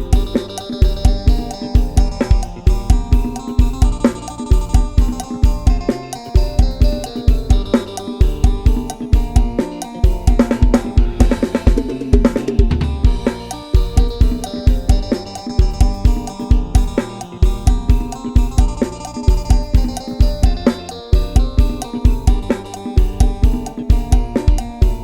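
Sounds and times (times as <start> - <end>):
programmed drum beat: 0.0 - 25.0
sampled bass: 0.0 - 25.0.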